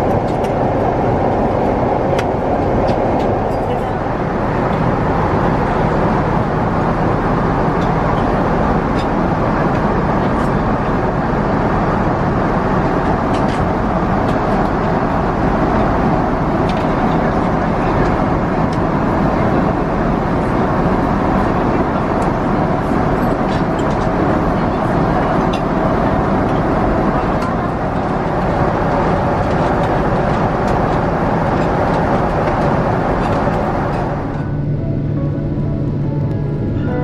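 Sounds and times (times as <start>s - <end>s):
airplane cabin noise: 0.0s - 37.0s.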